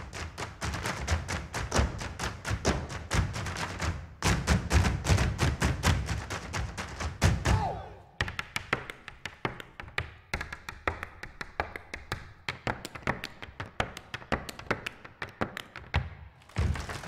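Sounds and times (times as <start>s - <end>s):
hard shoes tapping on wooden stage: 0.0s - 17.0s.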